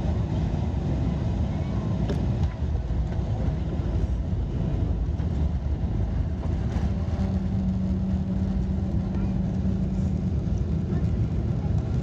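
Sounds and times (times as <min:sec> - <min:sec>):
wheels rumbling on runway: 0:00.0 - 0:12.0.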